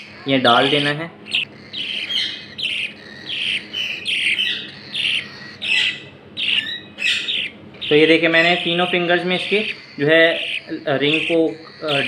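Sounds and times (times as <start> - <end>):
bird chick chirping: 0.0 - 12.0.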